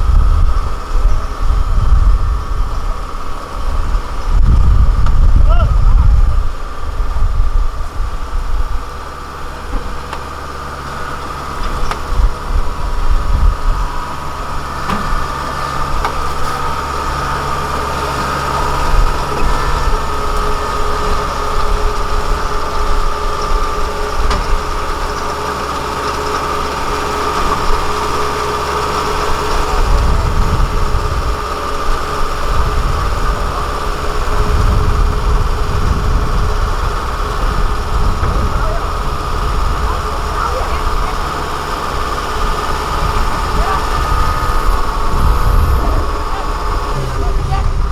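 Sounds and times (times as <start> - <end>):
constant high whine: 0.0 - 47.9
diesel engine running: 0.0 - 47.9
gusty low rumbles: 0.0 - 47.9.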